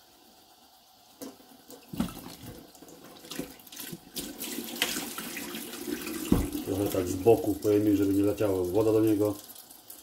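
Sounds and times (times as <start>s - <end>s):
tap water running into a jug: 1.1s - 10.0s.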